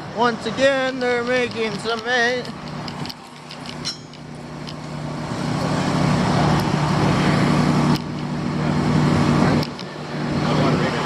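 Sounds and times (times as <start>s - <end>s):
construction machinery engine hum: 0.0s - 11.0s.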